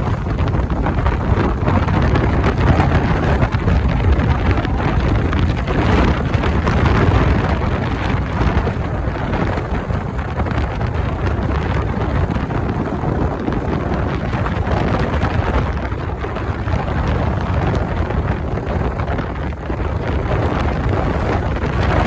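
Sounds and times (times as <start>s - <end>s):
motorcycle road noise: 0.0s - 22.0s
wind buffeting microphone: 0.0s - 22.0s.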